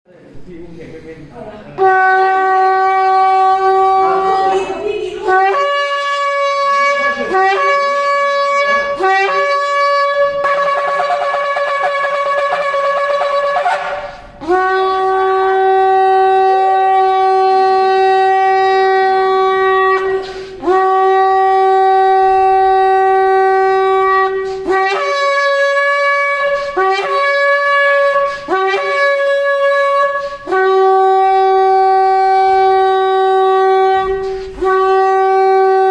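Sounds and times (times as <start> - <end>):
shofar blasts: 1.8 - 35.9.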